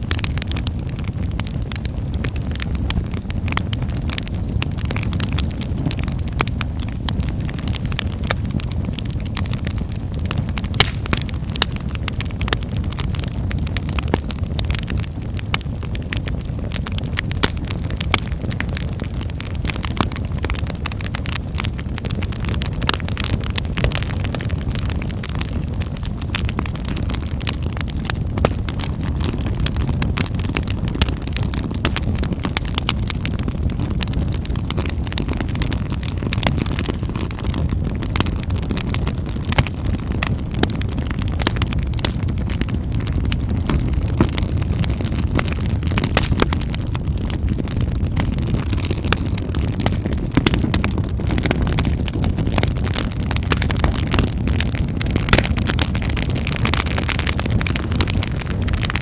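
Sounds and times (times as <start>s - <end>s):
logs crackling and popping: 0.0s - 59.0s
wood fire burning: 0.0s - 59.0s.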